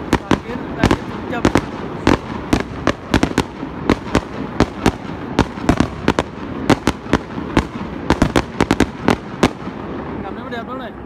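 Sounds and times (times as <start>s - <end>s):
fireworks bangs: 0.0s - 11.0s
rumble of bursts: 0.0s - 11.0s.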